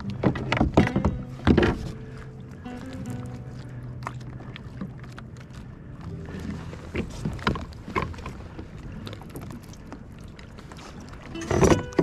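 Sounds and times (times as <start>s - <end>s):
water lapping at kayak: 0.0s - 12.0s.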